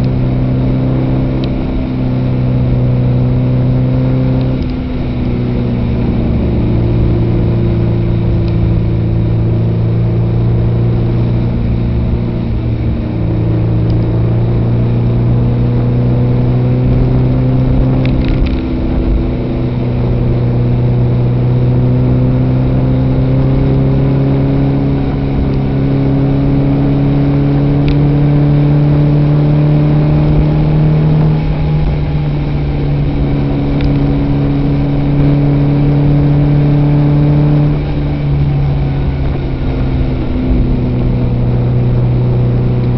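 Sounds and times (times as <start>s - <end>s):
car engine pulling: 0.0s - 42.9s.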